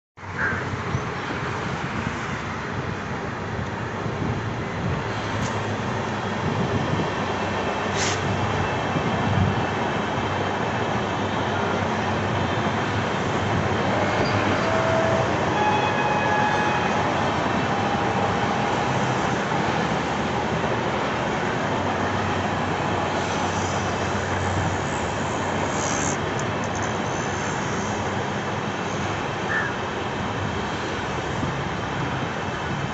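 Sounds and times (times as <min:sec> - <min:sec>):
train wheels rumbling on rails: 0:00.3 - 0:32.9.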